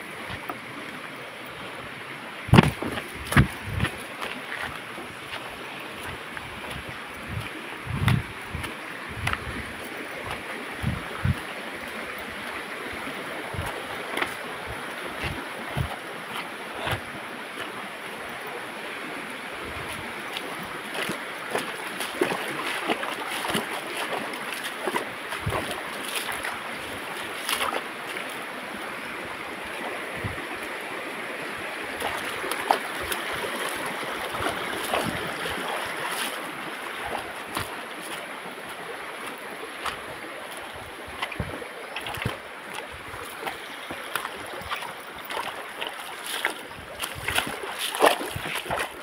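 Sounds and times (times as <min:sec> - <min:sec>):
stream running over rocks: 0:00.0 - 0:49.0.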